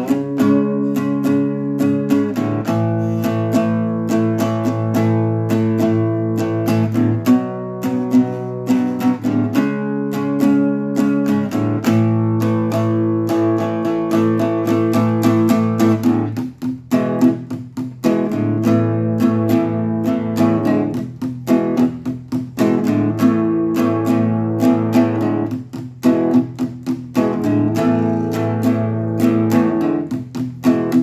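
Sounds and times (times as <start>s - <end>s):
acoustic guitar plucked notes: 0.0s - 31.0s.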